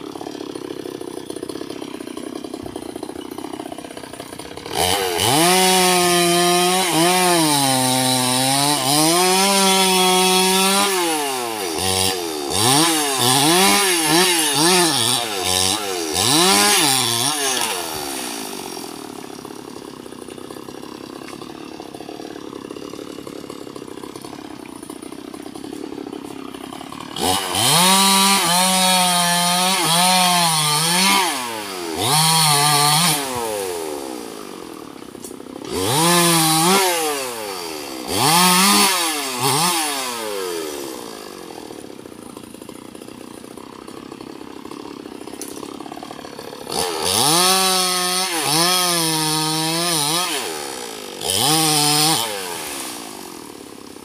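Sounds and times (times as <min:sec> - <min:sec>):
chainsaw cutting into tree trunk: 0:00.0 - 0:54.0
chainsaw idling and revving: 0:00.0 - 0:54.0.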